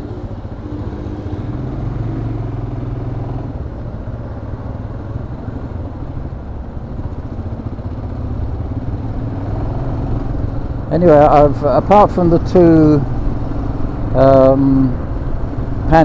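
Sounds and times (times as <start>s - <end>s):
motorcycle engine humming: 0.0s - 16.0s
road noise rushing: 0.0s - 16.0s.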